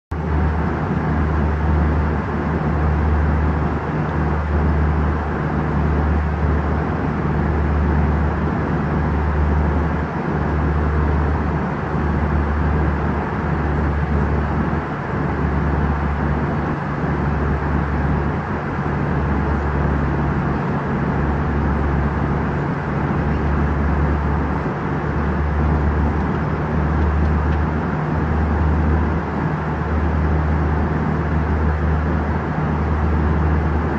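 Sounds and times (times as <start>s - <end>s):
airliner cabin roar: 0.1s - 33.9s
deep wavering engine hum: 0.1s - 33.9s.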